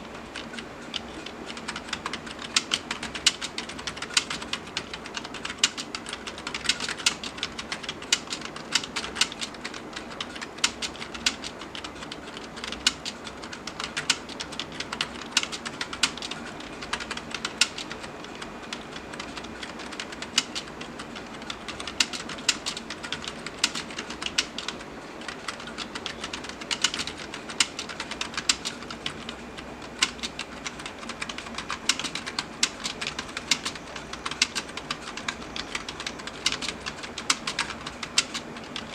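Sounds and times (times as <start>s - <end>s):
fast typing on keyboard: 0.2s - 38.9s.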